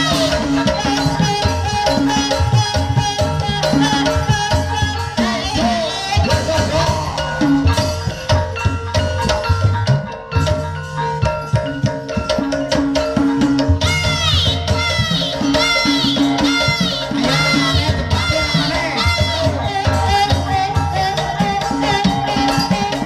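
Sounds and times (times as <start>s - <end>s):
drum strokes: 0.0s - 23.0s
gamelan music: 0.0s - 23.0s
pot gongs and metallophones: 0.0s - 23.0s.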